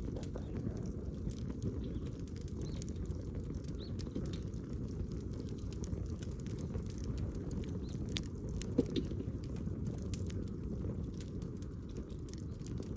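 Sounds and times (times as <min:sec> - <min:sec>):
campfire crackling: 0:00.0 - 0:12.9.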